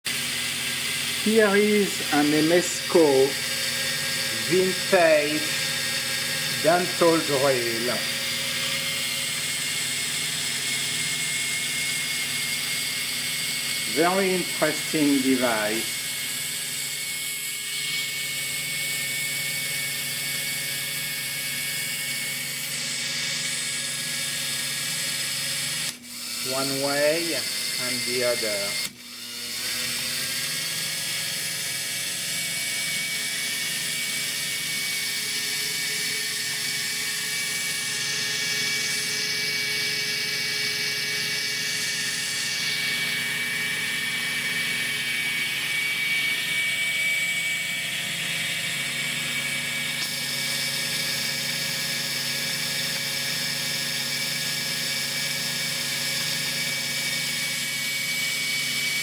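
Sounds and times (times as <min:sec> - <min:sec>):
dental drill motor whine: 0:00.0 - 0:59.0.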